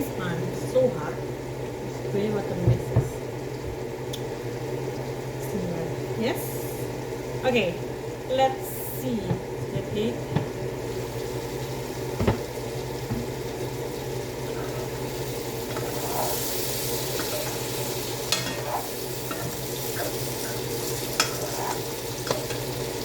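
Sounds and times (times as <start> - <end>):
food sizzling in a pan: 3.5 - 23.0.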